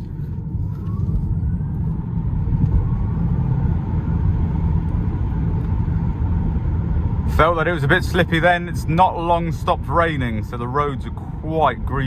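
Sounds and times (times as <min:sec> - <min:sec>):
faint rising whine: 0:00.0 - 0:10.4
tyres rumbling on road: 0:00.0 - 0:12.0.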